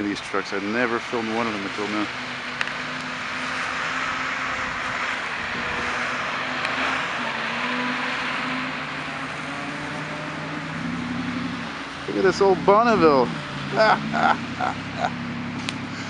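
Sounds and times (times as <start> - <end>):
truck diesel engine humming: 0.0 - 16.0
tyres hissing on wet road: 0.0 - 16.0.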